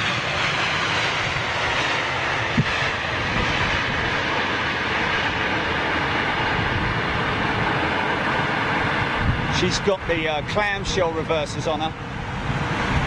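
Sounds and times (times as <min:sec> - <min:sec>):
jet engines in reverse thrust: 0:00.0 - 0:13.0.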